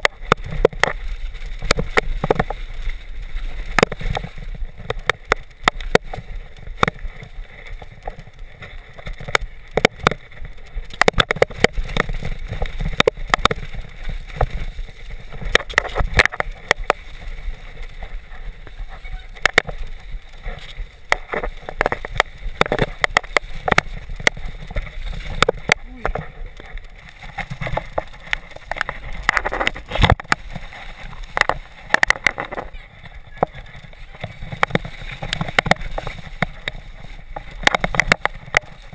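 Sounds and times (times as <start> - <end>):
bike knocks and rattles: 0.0 - 38.9
wind on camera: 0.0 - 38.9.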